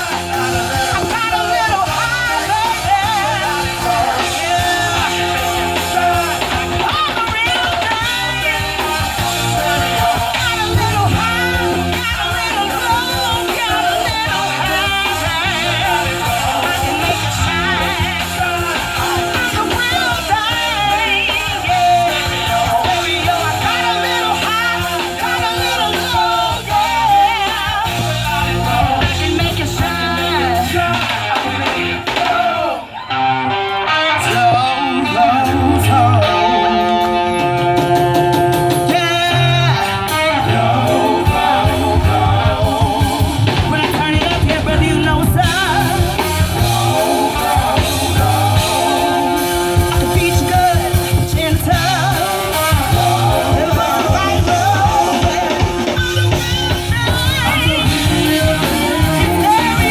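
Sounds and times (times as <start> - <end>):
live band playing: 0.0 - 59.9
person singing lead vocal: 0.0 - 59.9.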